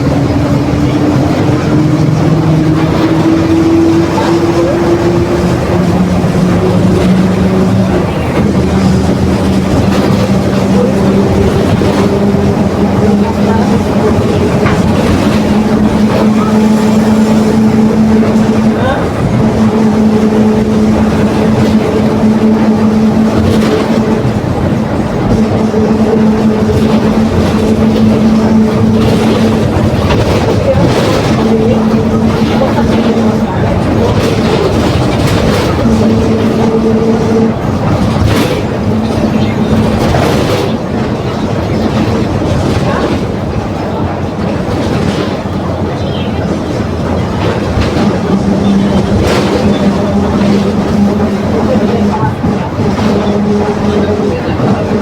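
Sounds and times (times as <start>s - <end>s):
bus drivetrain drone: 0.0s - 55.0s.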